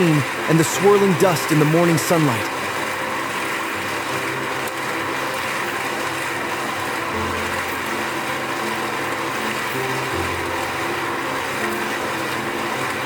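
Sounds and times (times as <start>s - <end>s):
background music: 0.0s - 13.0s
concrete mixer drum churning: 0.0s - 13.0s.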